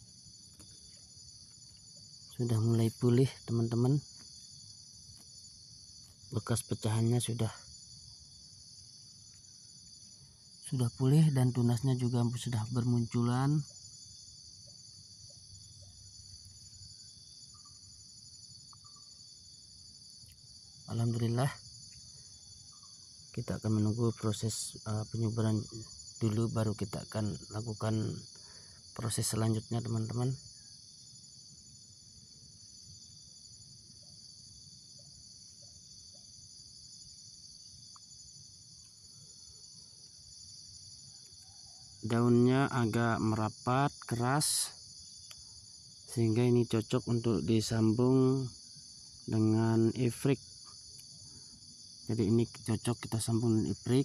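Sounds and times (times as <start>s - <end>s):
insects chirping chorus: 0.0s - 54.0s.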